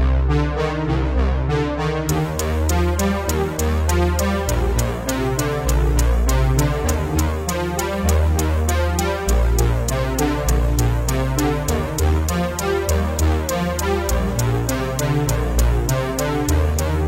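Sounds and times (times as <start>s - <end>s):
electronic music: 0.0s - 17.0s.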